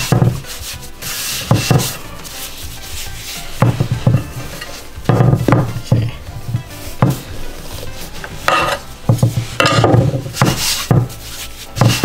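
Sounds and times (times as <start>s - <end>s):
dough thumping on stone: 0.0s - 2.4s, 3.5s - 7.4s, 8.2s - 12.0s
hands sweeping flour on marble: 0.0s - 5.1s, 6.5s - 12.0s.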